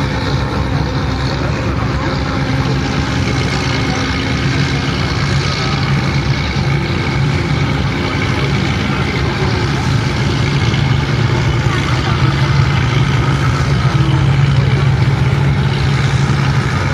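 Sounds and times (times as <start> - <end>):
boat engines running: 0.0 - 16.9
crowd voices: 0.0 - 16.9.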